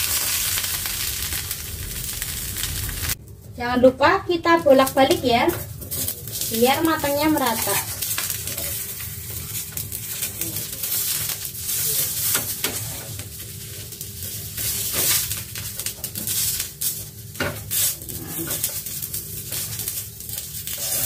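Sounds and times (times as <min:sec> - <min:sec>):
eggplants sizzling in frying pan: 0:00.0 - 0:21.0.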